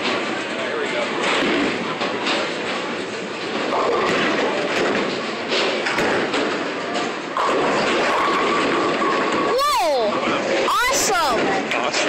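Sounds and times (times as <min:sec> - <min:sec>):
bowling balls rolling: 0:00.0 - 0:11.7.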